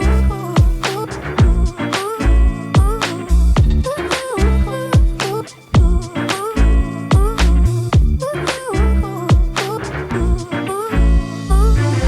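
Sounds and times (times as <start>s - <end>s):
upbeat funk music: 0.0s - 12.0s.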